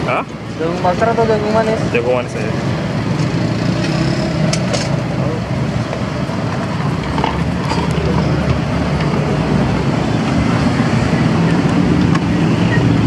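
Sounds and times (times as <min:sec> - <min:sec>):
road traffic noise: 0:00.0 - 0:13.0
vehicle engine running: 0:02.4 - 0:13.0.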